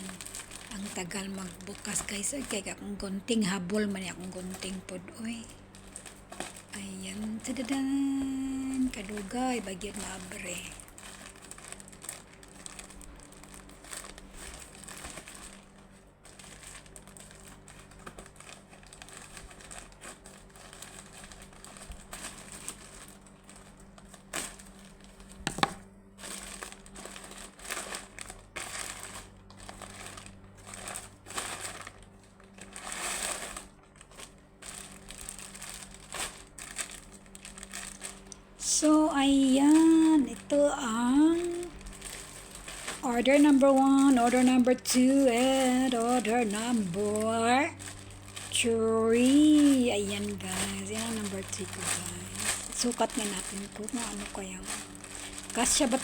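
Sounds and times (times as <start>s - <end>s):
plastic packaging crinkling: 0.0s - 56.0s.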